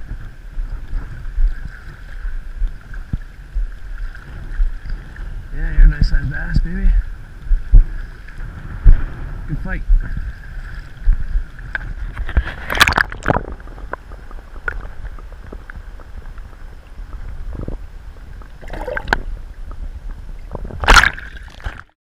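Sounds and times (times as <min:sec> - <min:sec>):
water sloshing and splashing: 0:00.0 - 0:09.3, 0:09.9 - 0:22.0
wind on microphone: 0:00.0 - 0:21.9.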